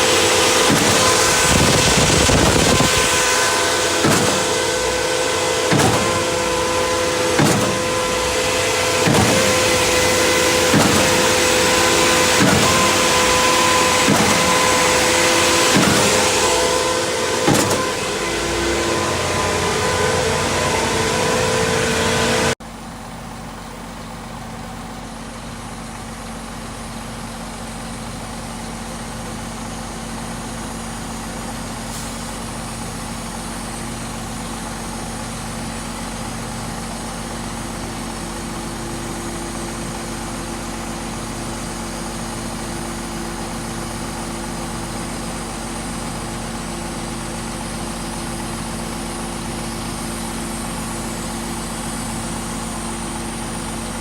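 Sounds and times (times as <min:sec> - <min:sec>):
diesel engine pulsing: 0:00.0 - 0:54.0.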